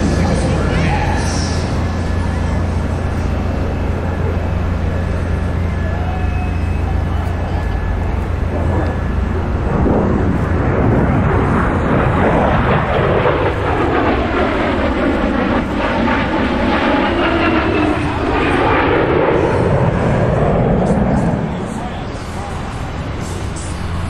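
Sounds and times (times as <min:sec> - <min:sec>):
jet passing overhead: 0:00.0 - 0:24.0.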